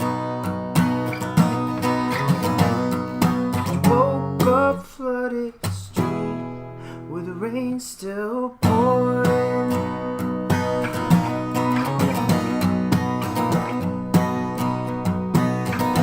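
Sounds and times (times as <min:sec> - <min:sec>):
acoustic blues guitar: 0:00.0 - 0:16.0.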